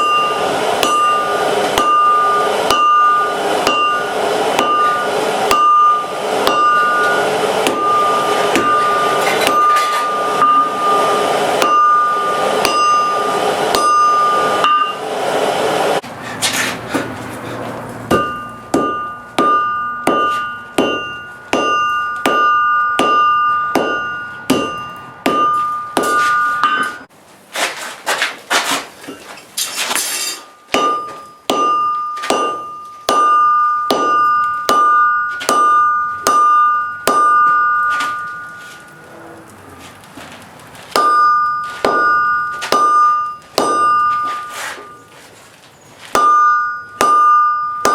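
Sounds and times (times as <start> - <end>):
hammer striking steel on anvil: 0.0 - 15.1, 18.1 - 27.1, 29.9 - 39.2, 40.9 - 45.1, 46.1 - 47.9.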